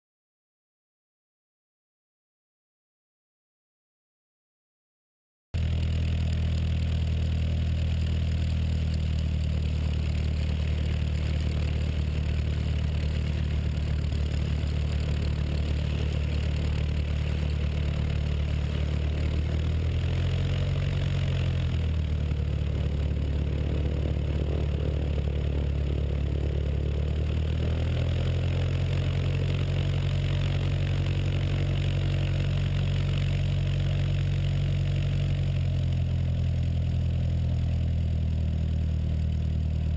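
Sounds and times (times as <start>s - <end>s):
propeller plane engine droning: 5.6s - 39.9s.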